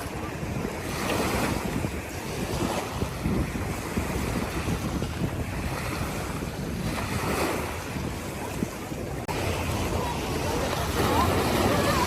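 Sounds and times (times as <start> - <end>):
sea waves washing ashore: 0.0 - 12.0
wind rumbling on microphone: 0.0 - 12.0.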